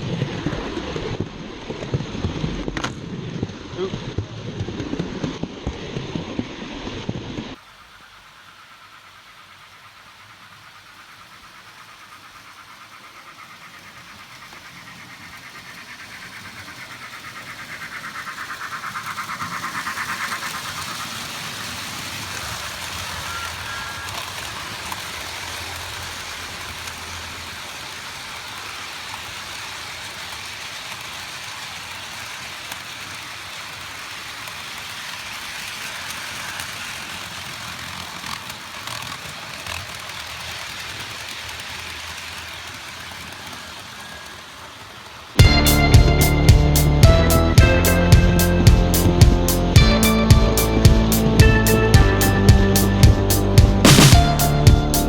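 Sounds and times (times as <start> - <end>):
toy train whirring and rattling: 8.9 - 53.6.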